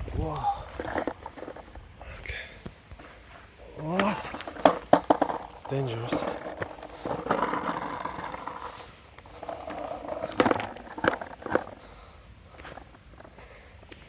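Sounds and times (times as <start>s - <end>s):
skateboard clacking on ground: 0.0s - 14.0s
skateboard wheels rolling: 0.0s - 14.0s.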